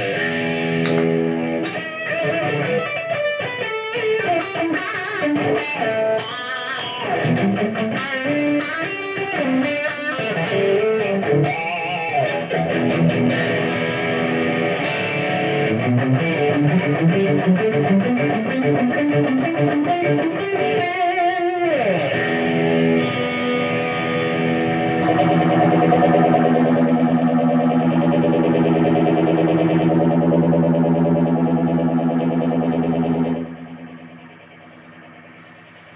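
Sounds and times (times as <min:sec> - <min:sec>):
electric guitar playing: 0:00.0 - 0:35.7.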